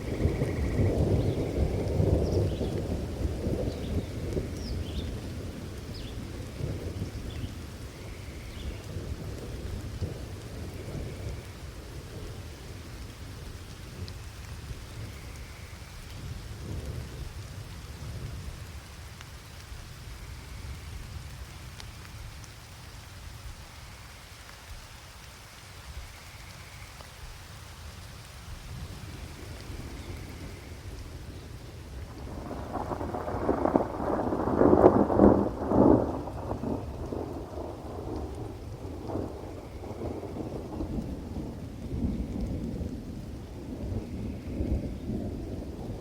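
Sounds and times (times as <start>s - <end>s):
low rumble of thunder: 0.0s - 23.5s, 28.0s - 46.0s
steady rain: 0.0s - 46.0s.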